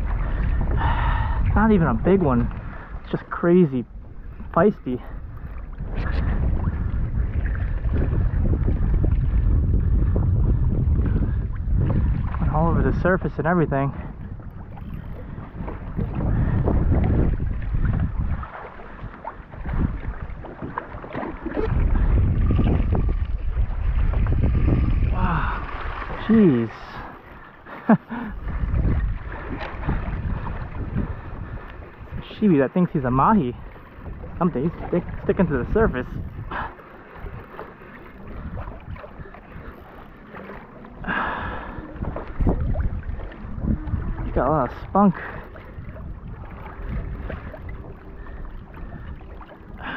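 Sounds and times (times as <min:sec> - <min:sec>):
water splashing against kayak hull: 0:00.0 - 0:49.9
wind buffeting microphone: 0:00.0 - 0:49.9.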